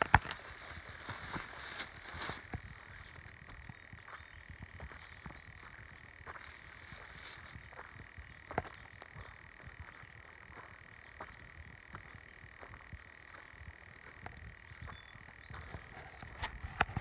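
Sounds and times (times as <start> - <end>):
footsteps crunching on twigs and leaves: 0.0 - 17.0.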